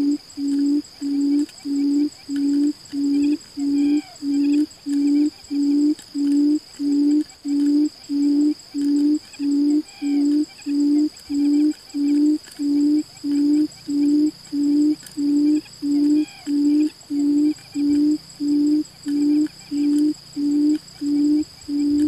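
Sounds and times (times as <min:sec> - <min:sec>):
high insect trill: 0:00.0 - 0:22.0
quail hooting: 0:00.0 - 0:22.0.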